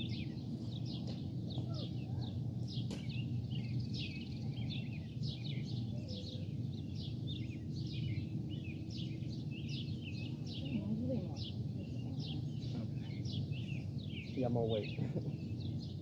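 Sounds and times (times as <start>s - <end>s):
birds chirping: 0.0s - 16.0s
low outdoor rumble: 0.0s - 16.0s.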